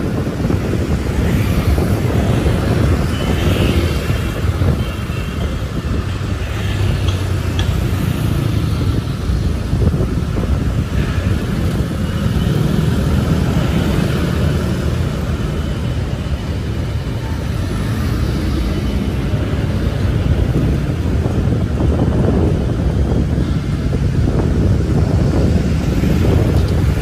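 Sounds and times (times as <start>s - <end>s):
road traffic rumble: 0.0s - 27.0s
wind buffeting microphone: 0.0s - 27.0s.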